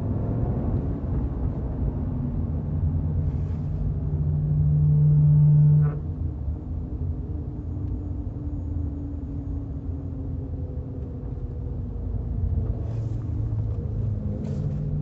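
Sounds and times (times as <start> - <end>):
car road and drivetrain rumble: 0.0 - 15.0
faint steady hum: 2.4 - 15.0.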